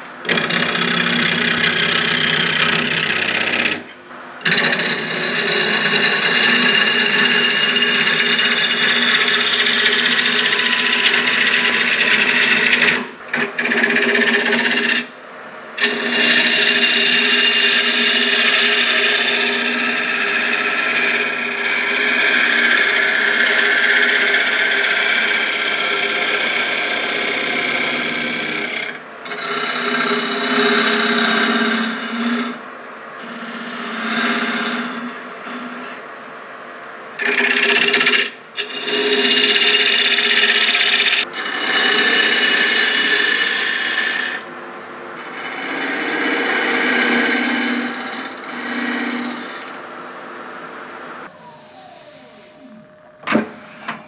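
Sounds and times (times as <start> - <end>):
woodworking machine cutting wood: 0.0 - 15.2, 15.8 - 32.6, 33.2 - 36.0, 37.2 - 44.5, 45.2 - 49.9, 51.1 - 54.0.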